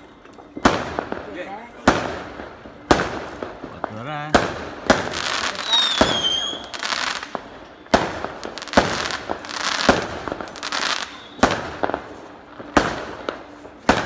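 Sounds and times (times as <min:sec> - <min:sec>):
crackling hiss of fireworks: 0:00.0 - 0:14.0
fireworks bangs: 0:00.0 - 0:14.0.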